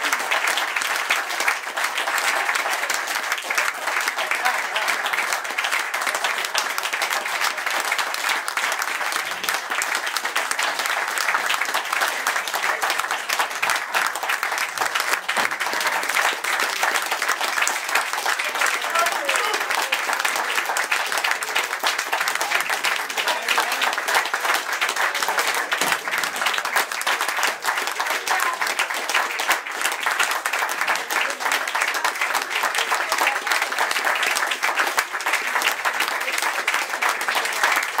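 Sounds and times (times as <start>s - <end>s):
audience applauding: 0.0s - 38.0s.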